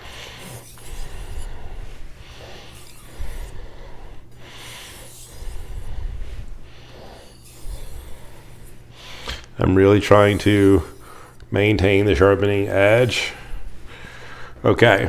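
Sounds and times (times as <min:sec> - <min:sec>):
knife blade scraping on whetstone: 0:00.0 - 0:13.8.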